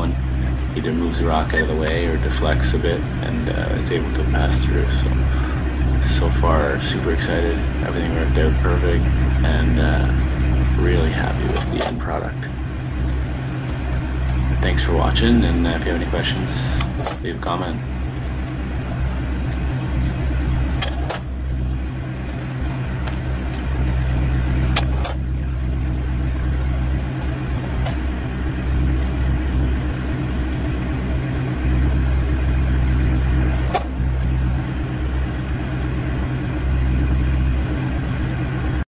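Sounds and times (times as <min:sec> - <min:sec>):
tractor engine running: 0:00.0 - 0:38.8.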